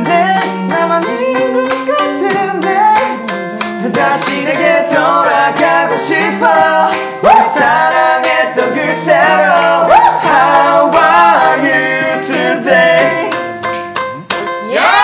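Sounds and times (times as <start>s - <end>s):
young men singing pop chorus: 0.0s - 13.6s
toy keyboard chords and beat: 0.0s - 15.0s.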